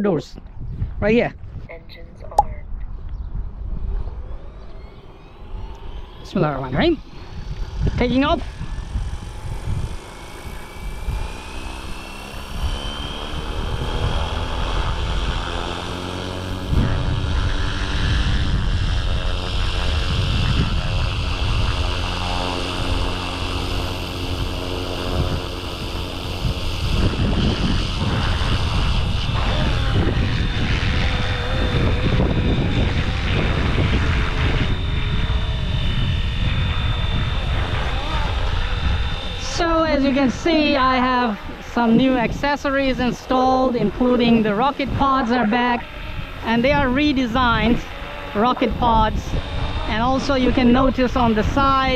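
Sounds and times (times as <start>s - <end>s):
wind buffeting microphone: 0.1s - 51.9s
toy helicopter rotor whine: 3.6s - 51.9s.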